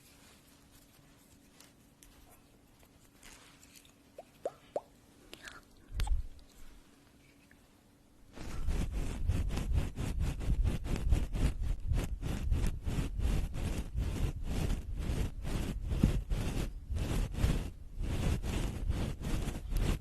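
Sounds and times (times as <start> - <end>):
scratching and rubbing strokes: 0.0 - 4.6, 8.3 - 20.0.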